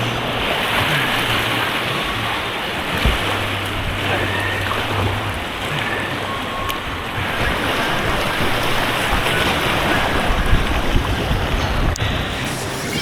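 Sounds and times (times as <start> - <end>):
wind buffeting microphone: 0.0 - 12.4
white water rushing: 0.0 - 13.0.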